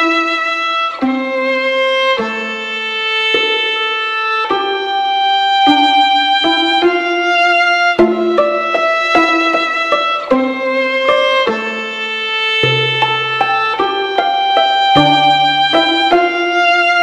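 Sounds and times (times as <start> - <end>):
instrumental music with held notes: 0.0 - 17.0.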